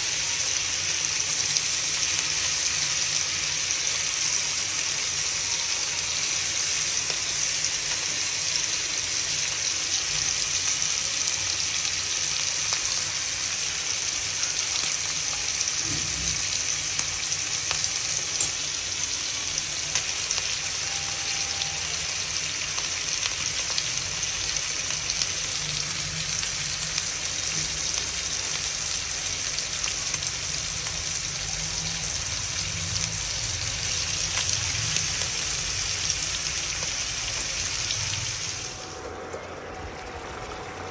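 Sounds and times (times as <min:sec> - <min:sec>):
fish frying in hot oil: 0:00.0 - 0:40.9.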